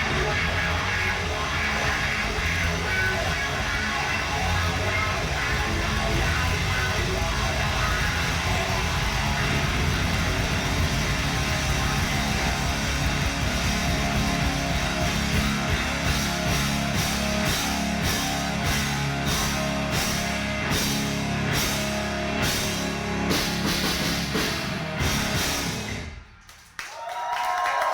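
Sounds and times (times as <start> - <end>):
loud rock music: 0.0 - 26.3.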